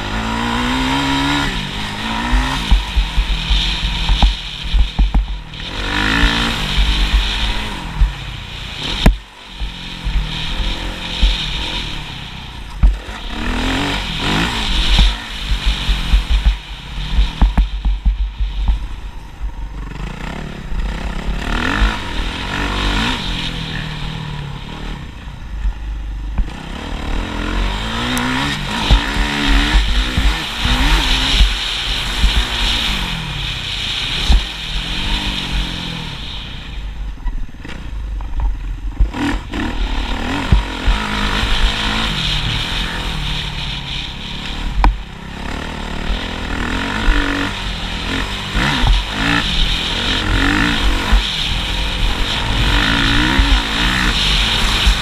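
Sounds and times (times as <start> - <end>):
motocross engine revving: 0.0 - 17.7, 18.5 - 36.4, 38.9 - 55.0.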